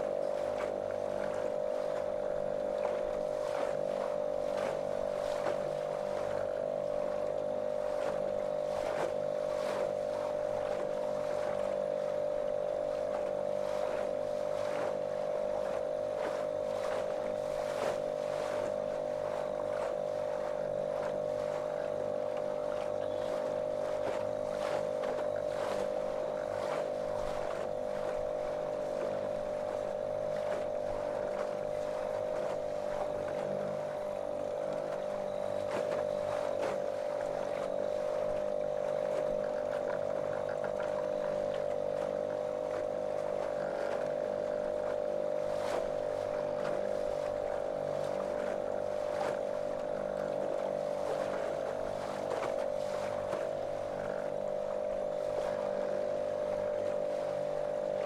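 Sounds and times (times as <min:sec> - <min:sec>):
motorboat motor running: 0:00.0 - 0:58.0.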